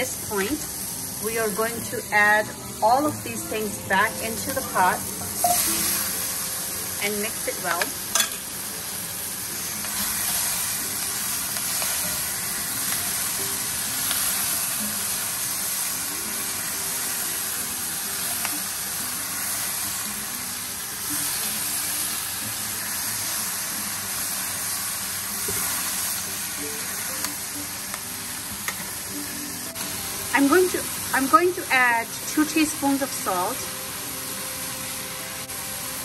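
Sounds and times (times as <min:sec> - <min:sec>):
meat and vegetables sizzling in oil: 0:00.0 - 0:36.0.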